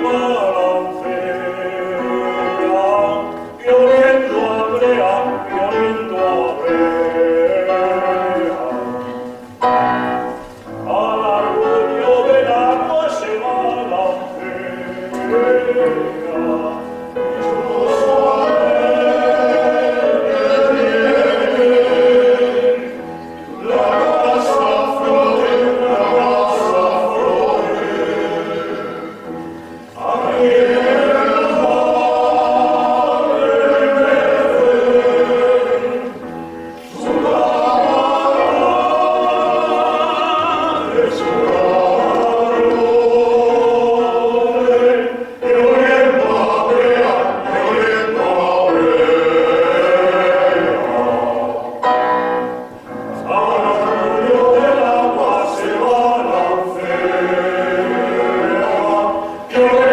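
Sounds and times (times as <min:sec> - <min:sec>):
men's choir singing: 0:00.0 - 0:59.9.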